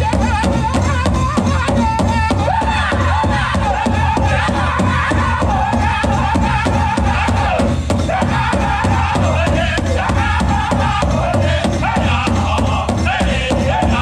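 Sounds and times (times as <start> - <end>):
big drum beating: 0.0 - 14.0
singers in high-pitched unison: 0.0 - 14.0.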